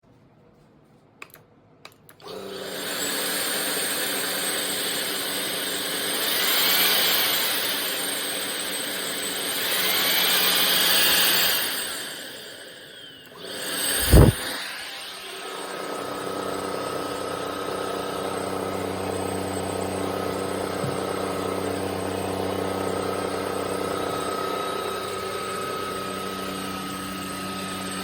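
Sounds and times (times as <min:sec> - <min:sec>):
vacuum motor whirring: 0:02.1 - 0:28.0.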